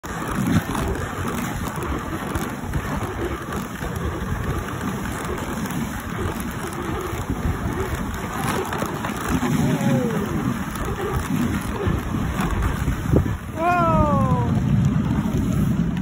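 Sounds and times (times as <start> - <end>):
sled rushing over snow: 0.0 - 16.0.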